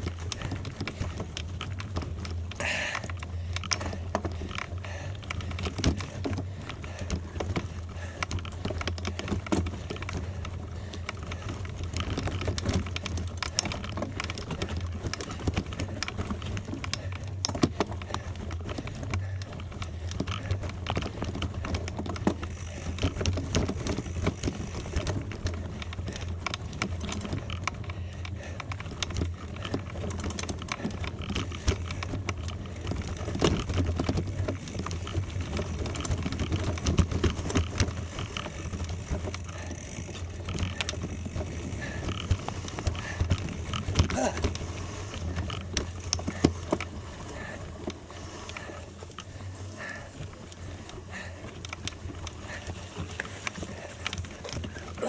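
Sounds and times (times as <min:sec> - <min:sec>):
bicycle tyres crunching on gravel: 0:00.0 - 0:55.0.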